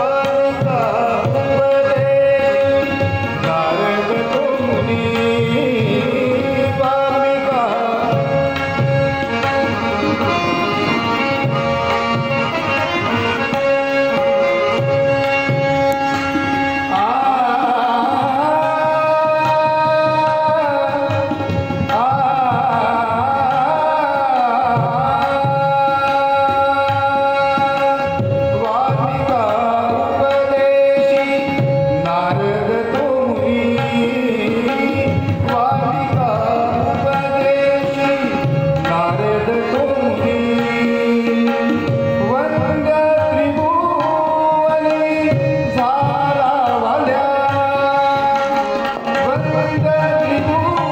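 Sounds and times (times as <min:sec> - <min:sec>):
harmonium sustained note: 0:00.0 - 0:50.9
man singing devotional song: 0:00.0 - 0:50.9
tabla playing rhythm: 0:00.0 - 0:50.9.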